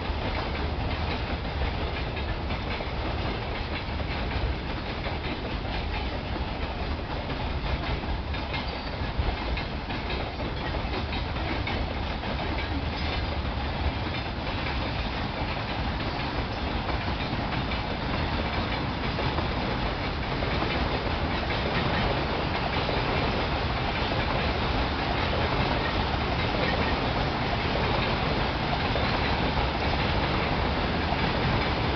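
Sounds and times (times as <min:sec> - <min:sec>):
train rumble: 0:00.0 - 0:31.9
train wheels clicking on rail joints: 0:00.0 - 0:31.9.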